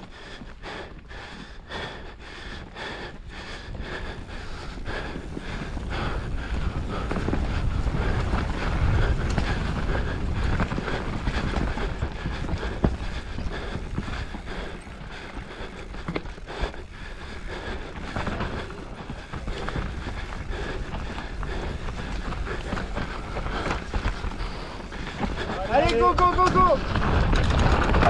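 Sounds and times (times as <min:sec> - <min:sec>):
bike tyre noise: 0:00.0 - 0:28.0
wind buffeting microphone: 0:00.0 - 0:28.0
bike chain and frame rattling: 0:03.3 - 0:28.0.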